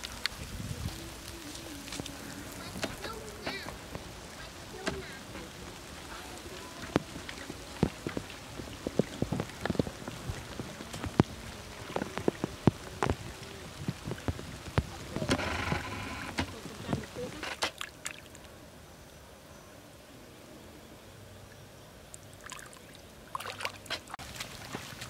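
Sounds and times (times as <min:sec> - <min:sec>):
muddy water splashing: 0:00.0 - 0:18.6, 0:22.1 - 0:25.0.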